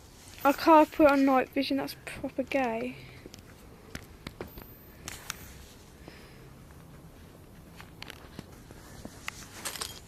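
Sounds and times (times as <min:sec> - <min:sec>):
low steady background noise: 0:00.0 - 0:10.0.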